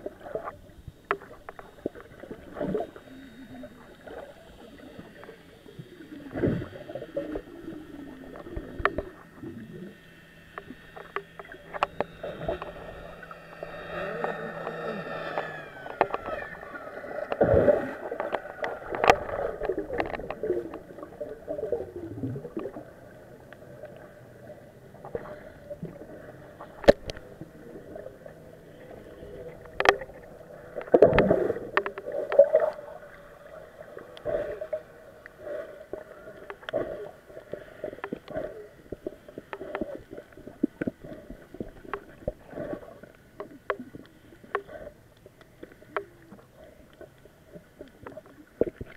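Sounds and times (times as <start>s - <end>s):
underwater sloshing and gurgling: 0.0s - 48.9s.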